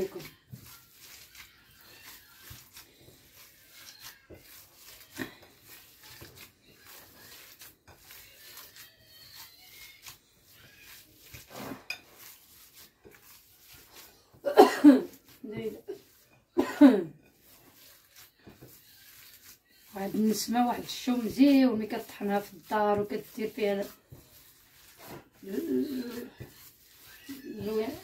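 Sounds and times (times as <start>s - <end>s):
hands squishing minced meat: 0.0s - 14.4s, 15.0s - 16.6s, 17.2s - 28.0s.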